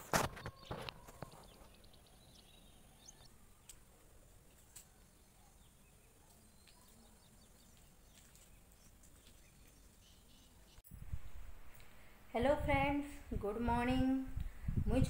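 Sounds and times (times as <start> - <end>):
faint background hiss: 1.8 - 15.0.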